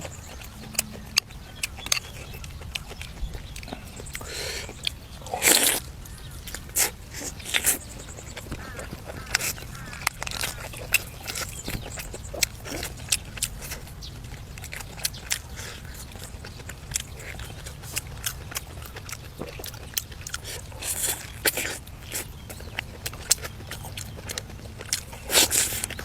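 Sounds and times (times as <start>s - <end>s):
chewing with crunches: 0.0s - 26.0s
low steady hum: 0.0s - 26.0s.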